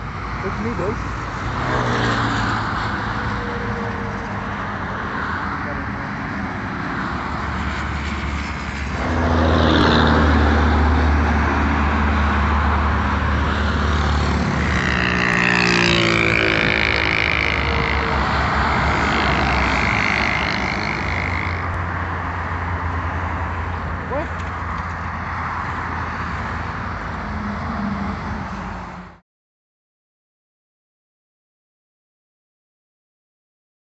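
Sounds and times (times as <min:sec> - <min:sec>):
highway traffic passing: 0:00.0 - 0:29.2
vehicle sweeping past: 0:00.6 - 0:29.2.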